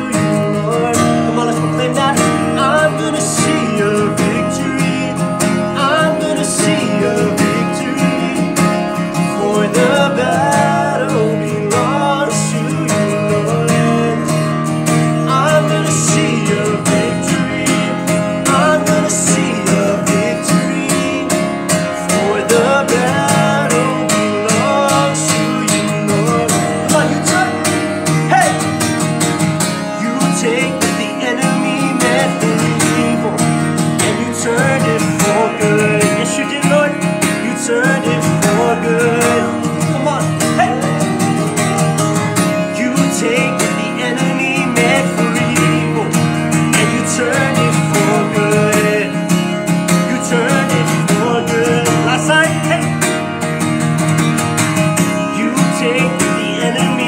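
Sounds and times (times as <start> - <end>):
man singing: 0.0 - 28.9, 29.7 - 53.1, 55.0 - 57.0
acoustic guitar strummed: 0.0 - 57.0.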